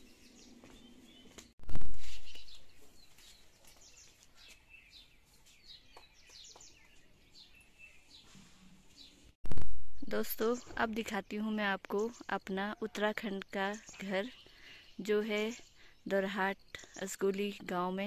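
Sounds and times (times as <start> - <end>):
small birds chirping: 0.0 - 9.4, 10.0 - 18.0.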